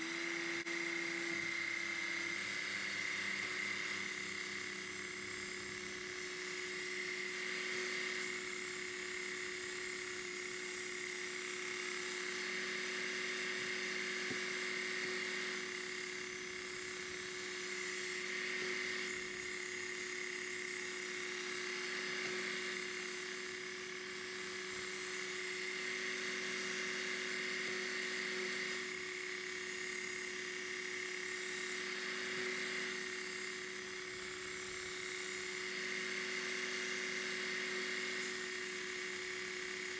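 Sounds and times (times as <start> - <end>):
belt sharpener running: 0.0 - 39.9.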